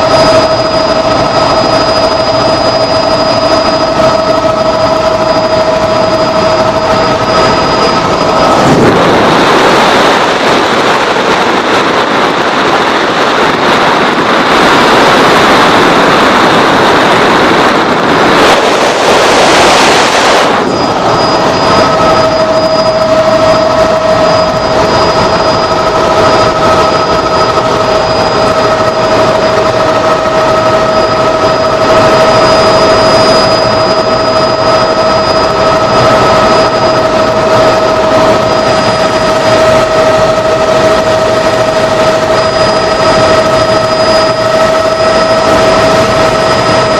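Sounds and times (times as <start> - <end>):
helicopter engine and rotor noise: 0.0 - 46.9
high whine: 0.0 - 46.9.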